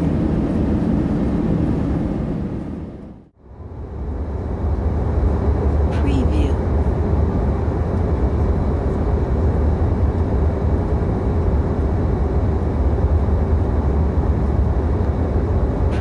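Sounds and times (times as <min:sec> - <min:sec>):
airliner engine and airflow rumble: 0:00.0 - 0:16.0.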